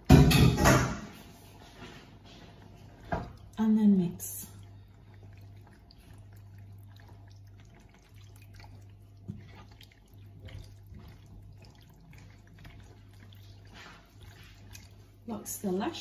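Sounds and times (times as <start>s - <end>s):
steady low hum: 0.1s - 16.0s
spoon stirring pasta in sauce: 1.2s - 15.8s.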